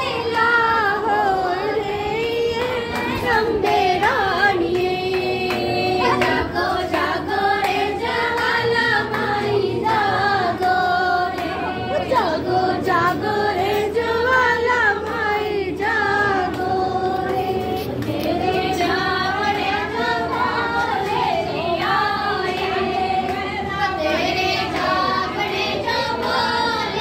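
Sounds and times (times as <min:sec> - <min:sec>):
women singing together: 0:00.0 - 0:27.0.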